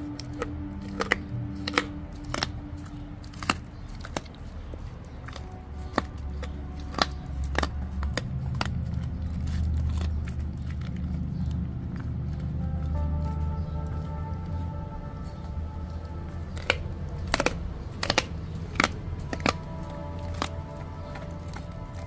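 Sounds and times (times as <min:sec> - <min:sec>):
dog chewing crunches: 0:00.0 - 0:22.0.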